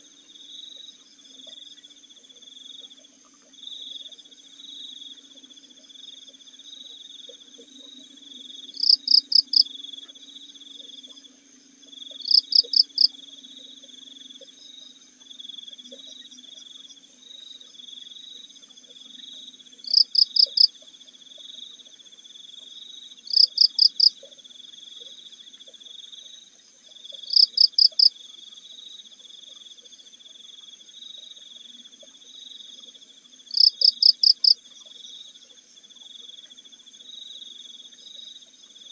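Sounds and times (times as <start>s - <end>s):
cricket chirps: 0.0s - 38.9s
high insect drone: 0.0s - 38.9s
crickets trilling: 0.1s - 38.9s.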